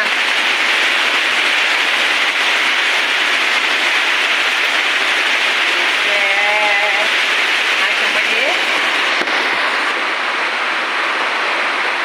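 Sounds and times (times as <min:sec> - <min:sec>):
rain on a metal roof: 0:00.0 - 0:12.0.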